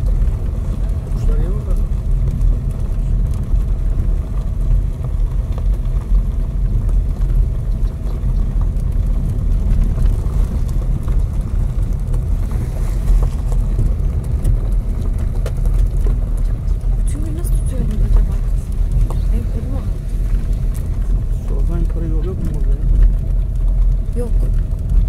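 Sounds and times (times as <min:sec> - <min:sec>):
car engine rumble: 0:00.0 - 0:25.0
tyres on gravel road: 0:00.0 - 0:25.0.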